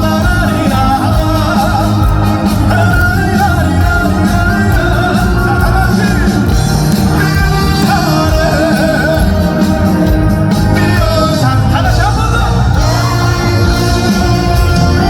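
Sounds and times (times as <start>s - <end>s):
amplified band with heavy bass: 0.0s - 15.0s
man singing: 0.0s - 15.0s.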